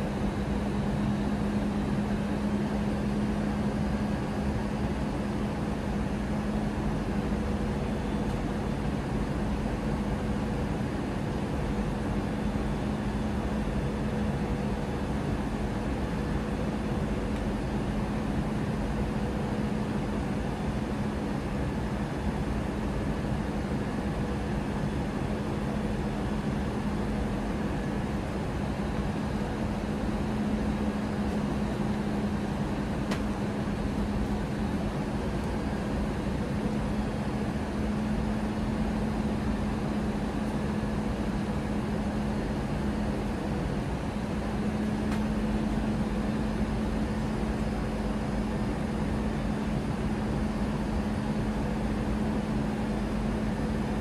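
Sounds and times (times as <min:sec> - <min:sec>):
airliner cabin airflow rush: 0:00.0 - 0:54.0
constant low hum: 0:00.0 - 0:54.0.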